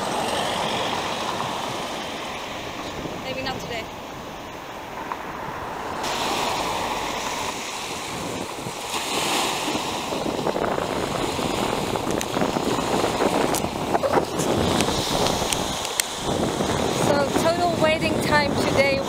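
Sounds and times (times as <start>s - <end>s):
small waves breaking on shore: 0.0s - 19.0s.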